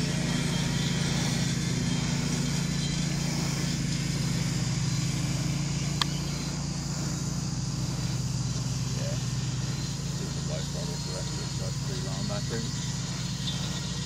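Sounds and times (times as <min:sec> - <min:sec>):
low engine-like hum: 0:00.0 - 0:14.0
model jet fans whining: 0:00.0 - 0:14.0.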